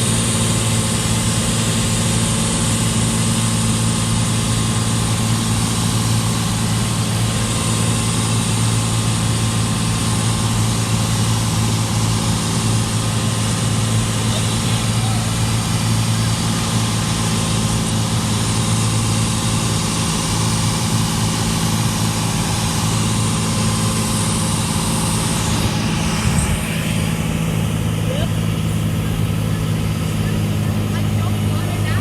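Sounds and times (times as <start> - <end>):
airplane engine hum in cabin: 0.0 - 32.0
steady rush of noise: 0.0 - 32.0.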